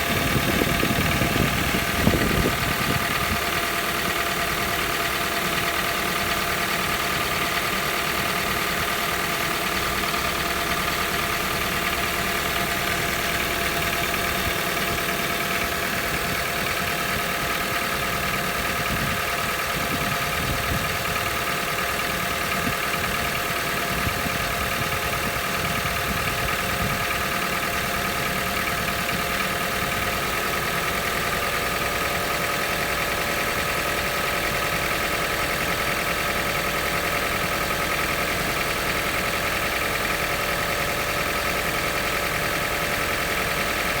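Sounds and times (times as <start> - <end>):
car engine idling: 0.0 - 44.0
engine knocking: 0.0 - 44.0.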